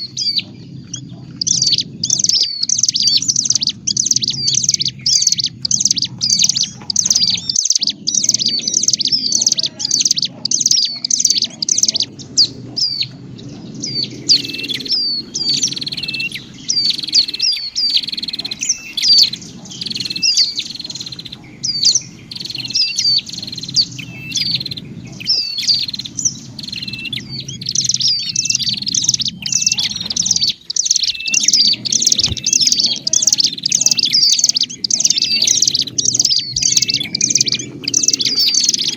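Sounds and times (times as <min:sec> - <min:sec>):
birds chattering chirps: 0:00.0 - 0:38.9
low hum: 0:00.0 - 0:38.9.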